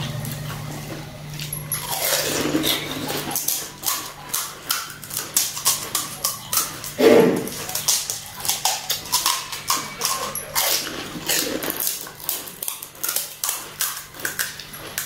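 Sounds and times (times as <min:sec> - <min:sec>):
chewing and mouth noises: 0:00.0 - 0:15.0
crisp shells cracking: 0:01.8 - 0:15.0.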